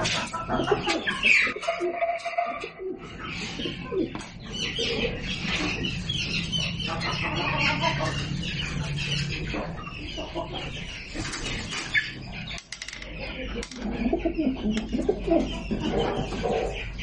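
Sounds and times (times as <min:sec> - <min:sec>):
pigeons calling: 0:00.0 - 0:17.0.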